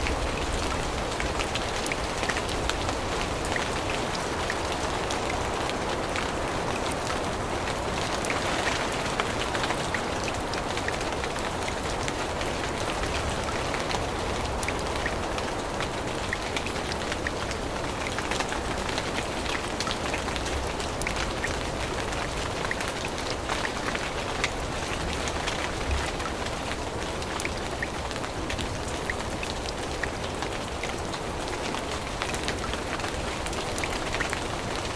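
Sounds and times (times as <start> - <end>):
rain on leaves: 0.0 - 34.9.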